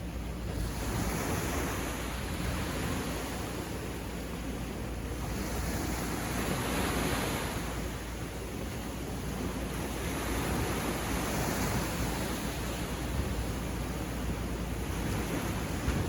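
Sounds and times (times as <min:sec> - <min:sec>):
sea waves washing onto beach: 0:00.0 - 0:16.0.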